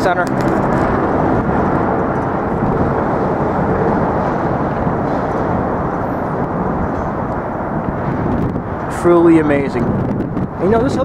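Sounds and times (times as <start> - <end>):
rumble of vehicle traffic: 0.0 - 11.0.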